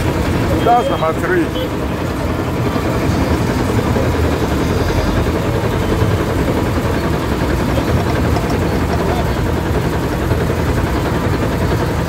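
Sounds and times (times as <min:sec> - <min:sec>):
crane engine running: 0:00.0 - 0:12.0.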